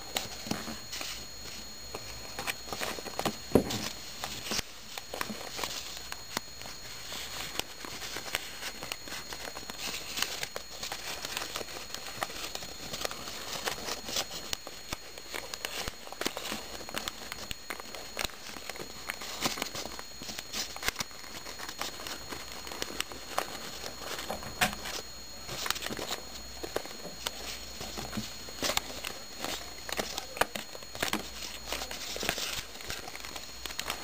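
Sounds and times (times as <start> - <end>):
paper rustling and crinkling: 0.1 - 34.0.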